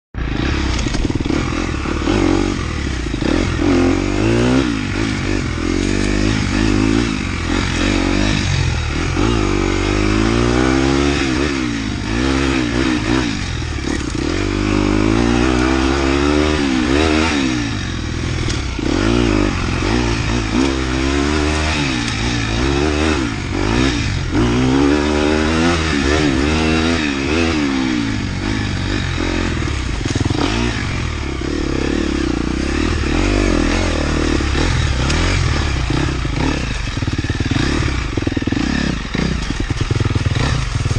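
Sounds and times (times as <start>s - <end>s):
motorcycle engine revving: 0.2s - 40.9s.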